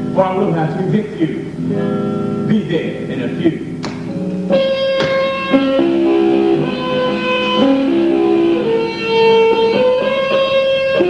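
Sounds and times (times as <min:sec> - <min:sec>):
electric guitar melody: 0:01.4 - 0:11.0.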